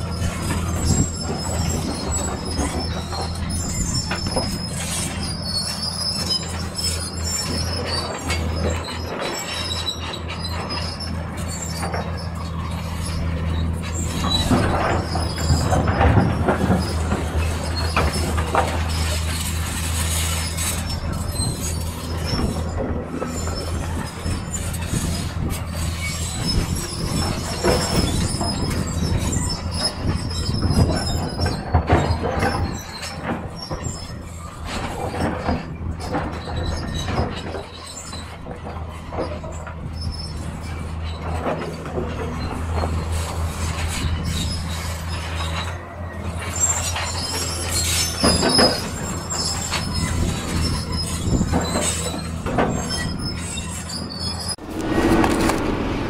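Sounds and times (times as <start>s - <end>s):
diesel engine under load: 0.0s - 56.0s
steel tracks clanking and squealing: 0.0s - 56.0s.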